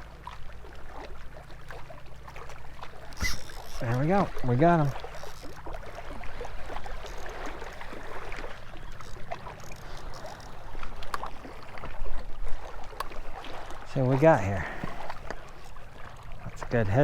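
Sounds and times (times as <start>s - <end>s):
water lapping against shore: 0.0s - 17.0s
small splashes and clicks: 0.1s - 16.8s.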